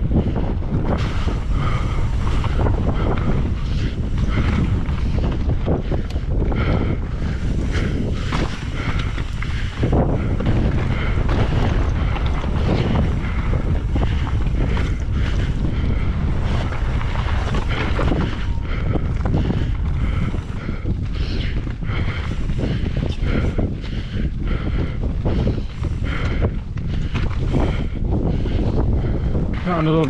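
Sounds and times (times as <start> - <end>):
bike rolling over rough trail: 0.0 - 30.0
wind buffeting microphone: 0.0 - 30.0.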